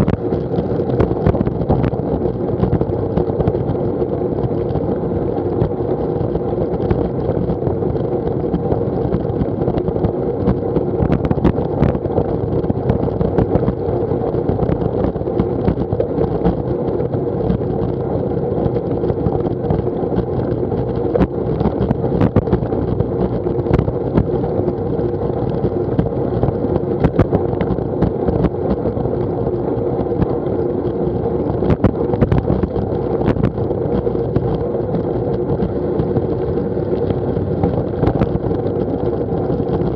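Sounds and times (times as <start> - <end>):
bicycle tyre rumble on tarmac: 0.0 - 39.9
sharp clicks and knocks: 0.0 - 39.9
steady hum: 0.0 - 39.9
wind on camera microphone: 0.0 - 39.9.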